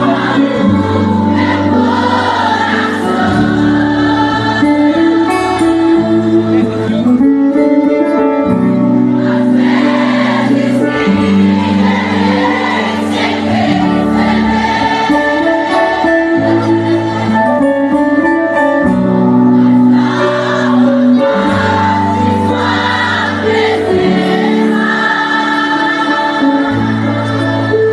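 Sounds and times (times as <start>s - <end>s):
voices singing: 0.0s - 7.0s, 9.0s - 17.7s, 19.4s - 27.9s
band playing slow chords: 0.0s - 27.9s.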